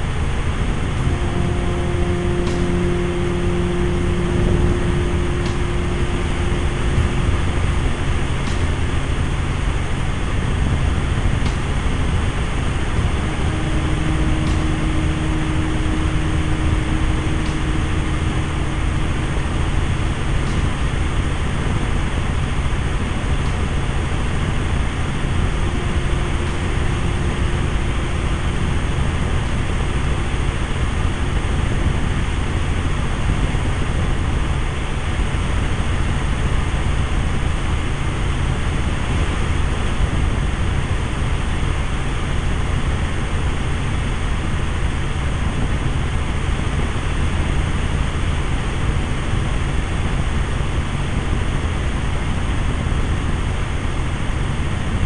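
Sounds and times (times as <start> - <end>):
helicopter engine and rotor drone: 0.0 - 51.5.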